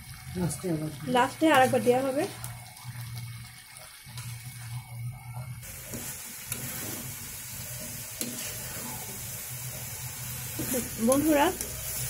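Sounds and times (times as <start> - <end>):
curry sizzling in a pan: 0.0 - 12.0.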